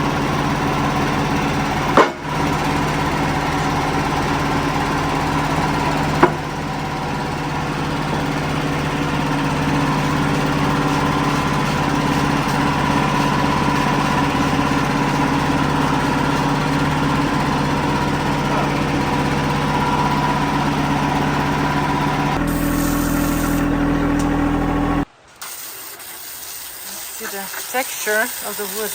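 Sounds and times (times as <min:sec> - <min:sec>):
sawmill engine running: 0:00.0 - 0:28.9.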